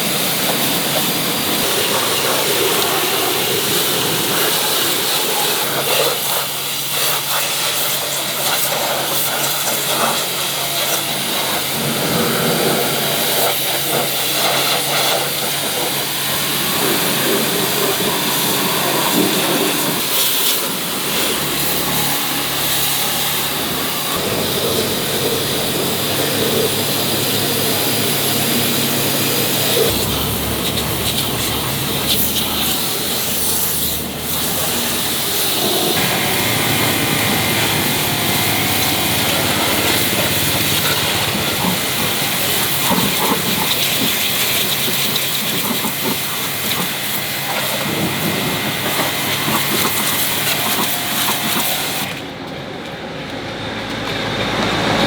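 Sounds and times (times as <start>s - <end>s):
hissing rushing mechanical noise: 0.0s - 52.5s.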